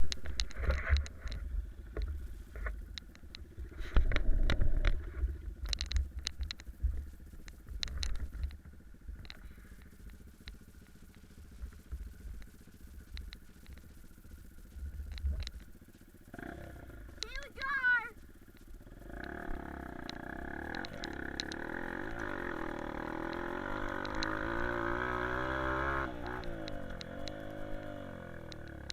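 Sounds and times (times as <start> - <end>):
dirt bike engine running: 0.0 - 28.9.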